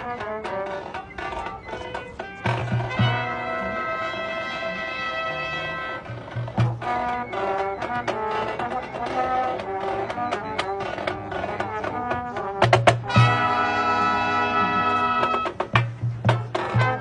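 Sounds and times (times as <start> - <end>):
brass chords: 0.0 - 17.0
drumline strikes: 0.0 - 17.0.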